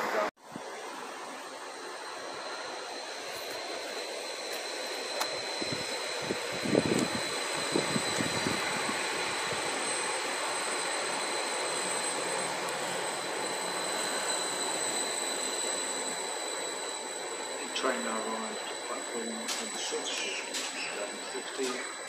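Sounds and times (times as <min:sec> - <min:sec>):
high whine: 0:00.0 - 0:22.0
train engine and wheels droning: 0:00.0 - 0:22.0.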